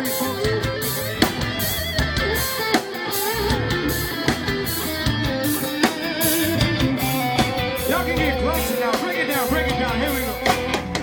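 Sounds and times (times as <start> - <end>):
live band playing: 0.0 - 11.0.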